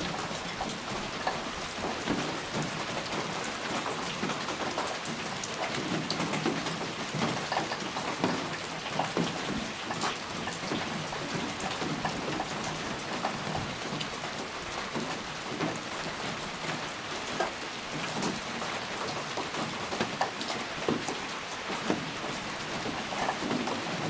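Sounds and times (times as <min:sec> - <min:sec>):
raindrops pattering: 0:00.0 - 0:24.0
steady rain falling: 0:00.0 - 0:24.0.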